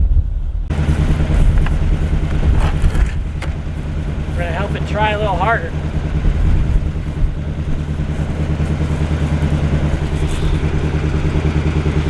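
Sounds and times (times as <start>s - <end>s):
car engine idling: 0.7s - 12.0s.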